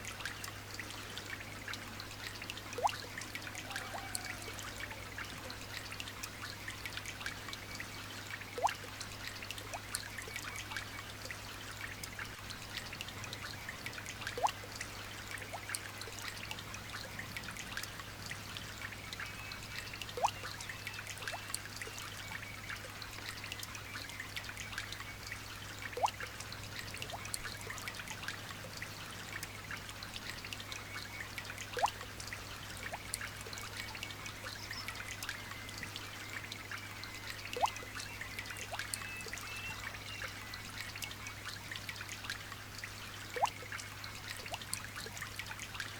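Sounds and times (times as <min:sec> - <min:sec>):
light rain pattering: 0:00.0 - 0:45.9.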